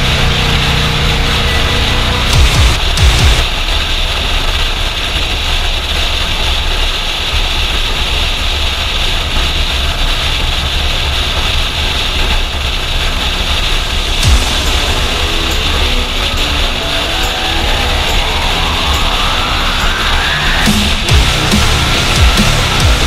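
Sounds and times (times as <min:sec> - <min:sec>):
road and wind hiss: 0:00.0 - 0:23.0.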